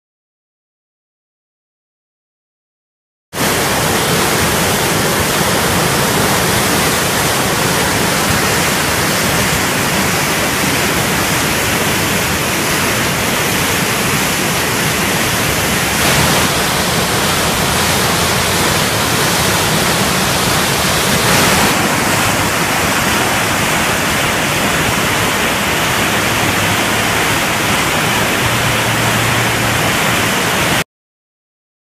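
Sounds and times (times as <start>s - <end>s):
floodwater rushing: 3.4s - 30.8s.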